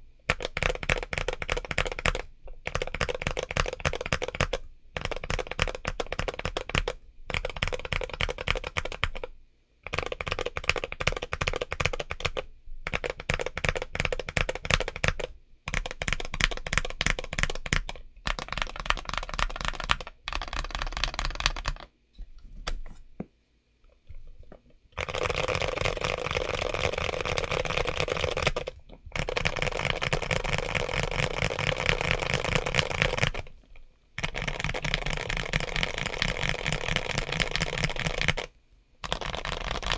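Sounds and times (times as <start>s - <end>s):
typing on mechanical keyboard: 0.2s - 21.9s, 25.0s - 33.5s, 34.2s - 39.9s.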